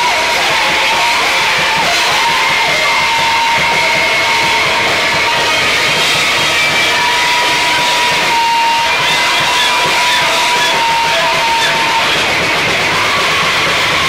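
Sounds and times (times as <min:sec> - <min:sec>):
distorted noise music: 0:00.0 - 0:14.0
steady high tones: 0:00.0 - 0:14.0.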